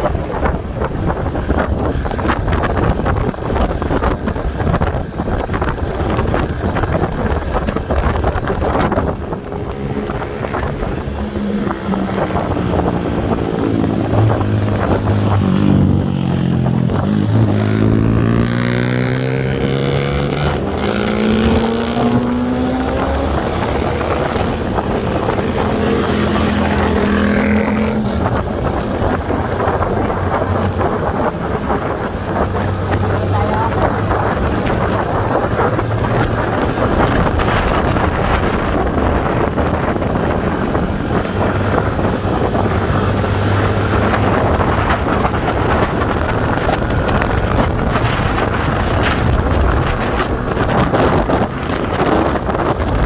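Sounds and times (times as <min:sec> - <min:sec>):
motor engine drone: 0:00.0 - 0:53.0
wind buffeting microphone: 0:00.0 - 0:53.0.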